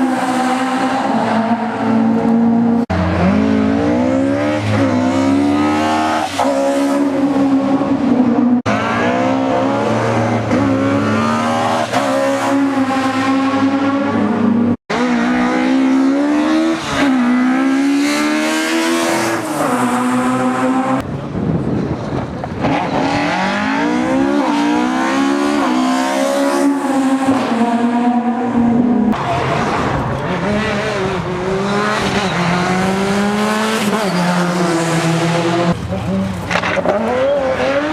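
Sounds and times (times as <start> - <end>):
rally car engines at full throttle: 0.0 - 37.9
tyre and road noise: 0.0 - 37.9.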